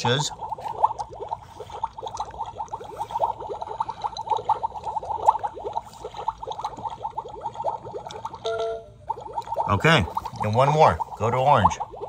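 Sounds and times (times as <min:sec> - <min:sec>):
toy chamber bubbling and gurgling: 0:00.0 - 0:12.0.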